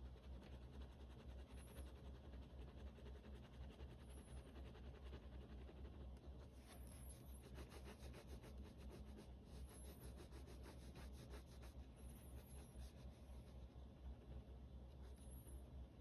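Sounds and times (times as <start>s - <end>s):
pen scratching on paper: 0.2s - 15.4s.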